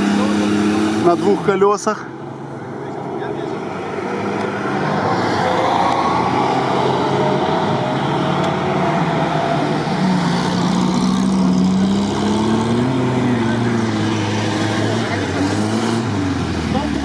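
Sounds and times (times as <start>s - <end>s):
suv engine revving under load: 0.0s - 17.0s.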